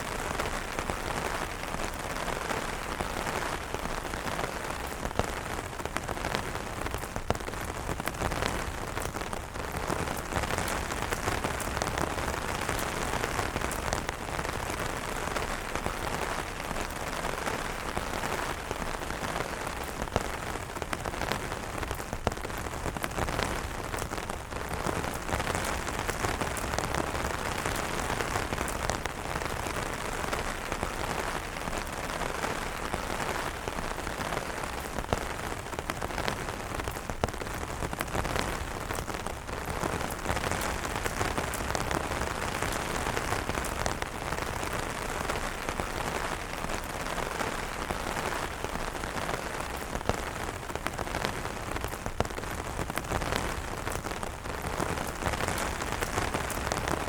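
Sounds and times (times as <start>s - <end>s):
rain pattering on umbrella: 0.0s - 57.0s.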